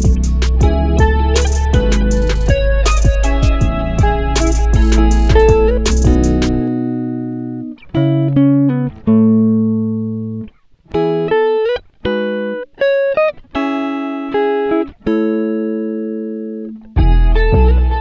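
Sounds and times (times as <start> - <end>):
plucked guitar melody: 0.0 - 18.0.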